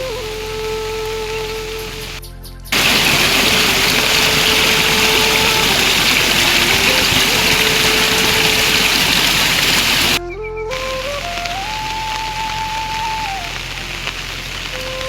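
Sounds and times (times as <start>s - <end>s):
heavy rain: 0.0s - 2.2s, 2.8s - 10.2s, 10.8s - 15.0s
soft background music: 0.0s - 8.2s, 10.2s - 15.0s.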